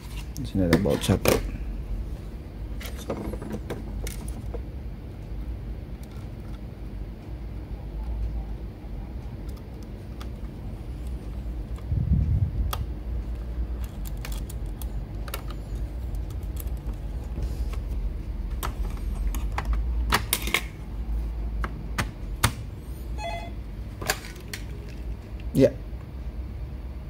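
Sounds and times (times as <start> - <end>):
steady low rumble: 1.3 - 3.0, 3.8 - 27.0.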